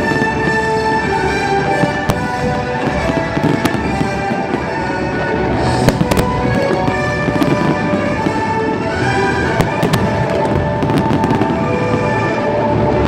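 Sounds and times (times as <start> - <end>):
fireworks bangs: 0.0 - 12.8
music playing: 0.0 - 13.0.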